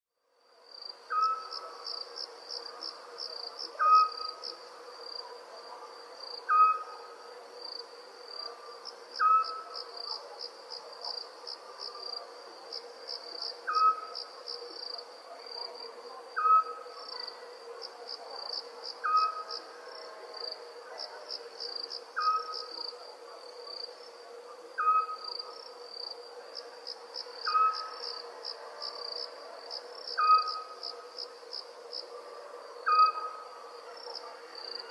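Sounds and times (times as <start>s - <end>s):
crickets chirping: 0.4s - 34.9s.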